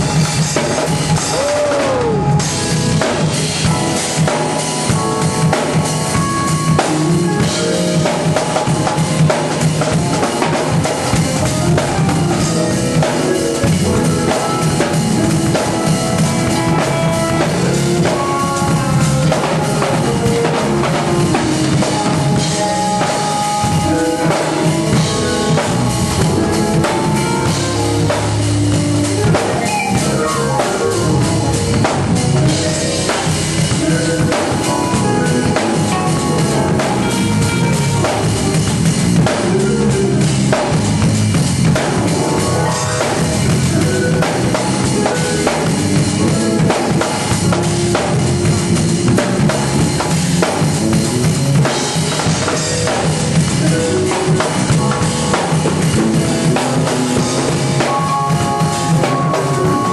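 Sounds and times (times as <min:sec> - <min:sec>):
acoustic drum kit playing: 0:00.0 - 0:59.9.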